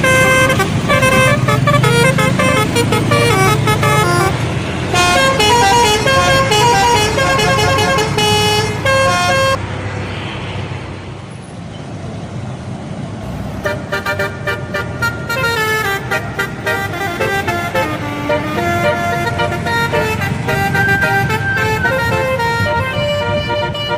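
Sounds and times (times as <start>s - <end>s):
bus horn playing a tune: 0.0s - 9.6s, 13.6s - 23.9s
engine and road noise: 0.0s - 23.9s.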